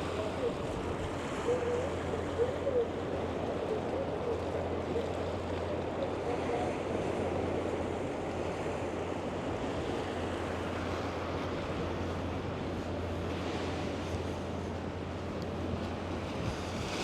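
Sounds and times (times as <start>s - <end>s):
river water: 0.0s - 17.0s
wind: 0.0s - 17.0s.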